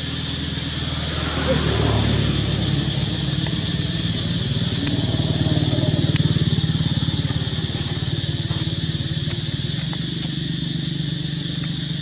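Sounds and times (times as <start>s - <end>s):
engine throbbing: 0.0s - 12.0s
high-pitched hiss: 0.0s - 12.0s.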